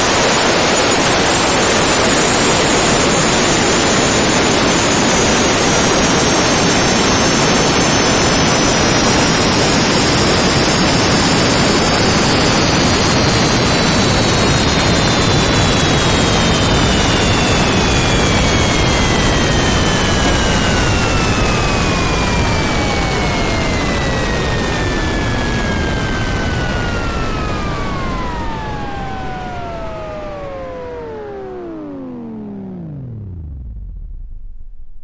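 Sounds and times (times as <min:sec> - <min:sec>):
falling turbine whistle: 0:00.0 - 0:34.8
turbojet engines roaring: 0:00.0 - 0:35.0.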